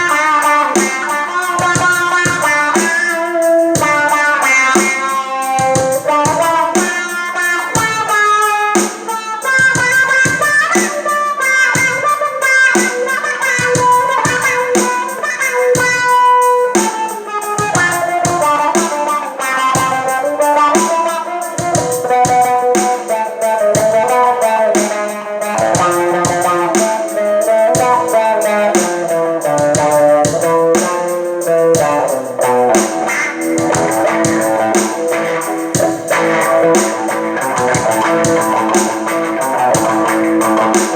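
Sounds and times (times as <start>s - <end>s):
electric guitar with wah-wah: 0.0s - 40.9s.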